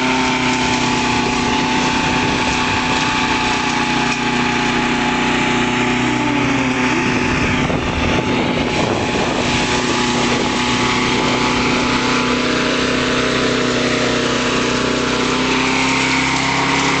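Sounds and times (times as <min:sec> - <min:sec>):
lawnmower engine running: 0:00.0 - 0:17.0.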